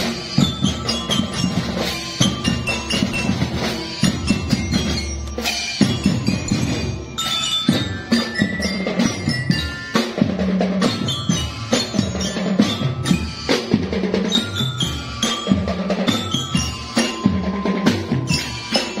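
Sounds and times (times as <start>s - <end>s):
glockenspiel notes: 0.0s - 19.0s
marching drums beat: 0.0s - 19.0s.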